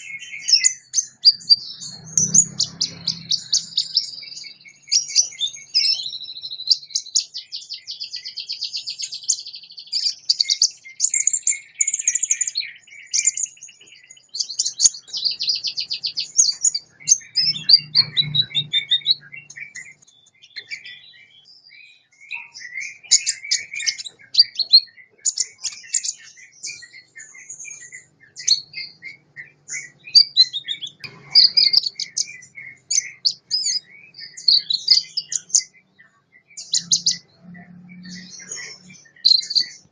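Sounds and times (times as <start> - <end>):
sunbird twittering and trilling: 0.0 - 39.9.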